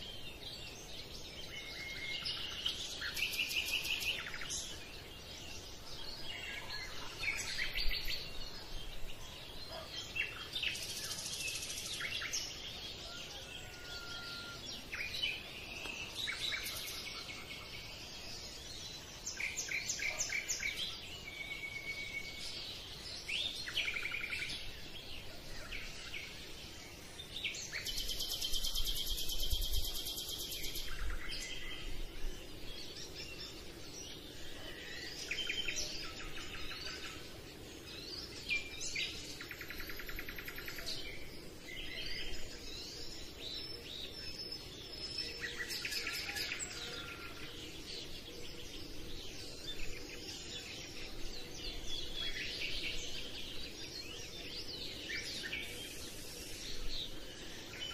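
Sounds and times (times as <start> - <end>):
birds chirping and singing: 0.0 - 57.9.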